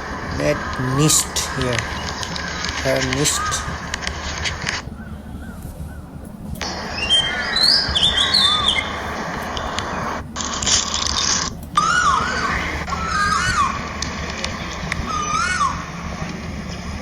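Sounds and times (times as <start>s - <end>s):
background hiss: 0.0s - 17.0s
small birds chirping: 0.0s - 17.0s.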